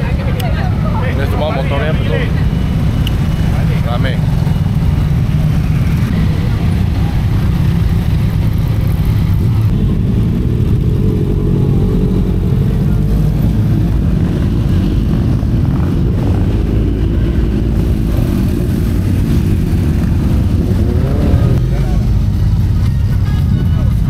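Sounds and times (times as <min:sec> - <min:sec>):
motorcycles riding past: 0:00.0 - 0:24.0.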